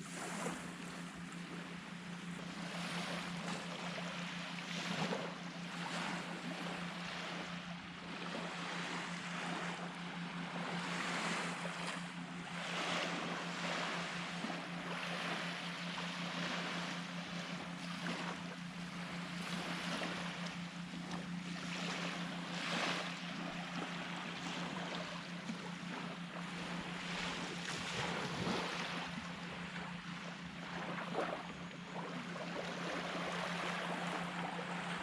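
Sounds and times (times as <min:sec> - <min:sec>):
small waves washing on beach: 0:00.0 - 0:35.0
steady low hum: 0:00.0 - 0:35.0.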